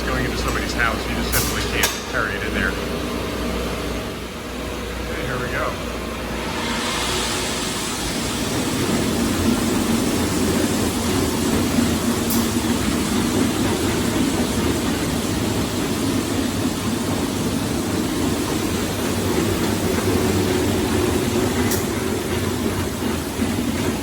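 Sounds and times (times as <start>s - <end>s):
concrete floor grinder running: 4.1s - 24.0s.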